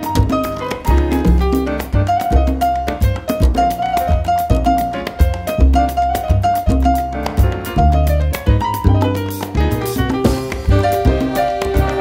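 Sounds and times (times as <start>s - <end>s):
latin jazz big band playing: 0.0s - 12.0s.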